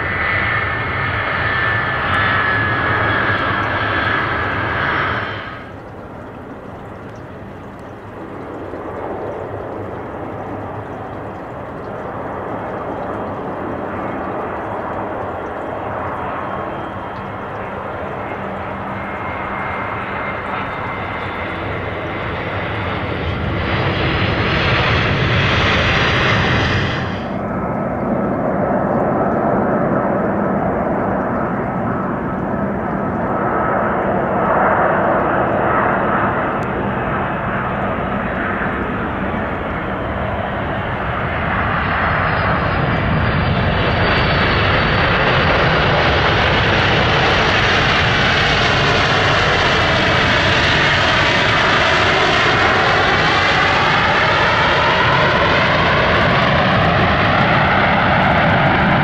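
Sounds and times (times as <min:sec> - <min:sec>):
jet airliner rolling on runway: 0:00.0 - 0:59.0
jet engine whine and roar: 0:00.0 - 0:59.0.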